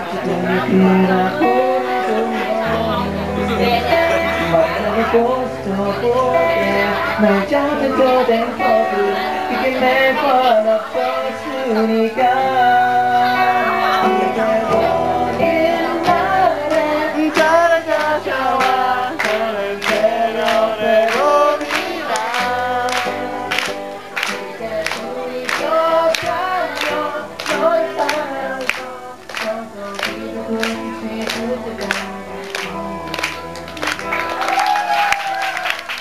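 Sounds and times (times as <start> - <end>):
person singing pop ballad: 0.0 - 35.1.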